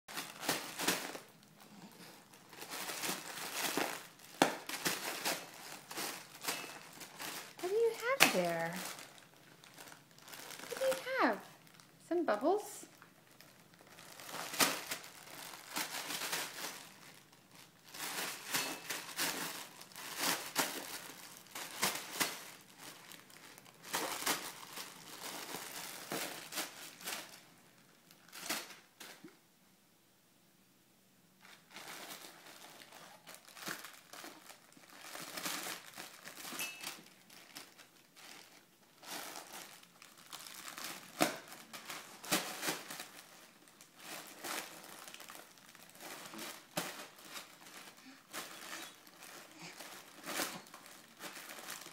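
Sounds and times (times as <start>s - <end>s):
bubble wrap crinkling: 0.1s - 29.4s, 31.4s - 51.9s.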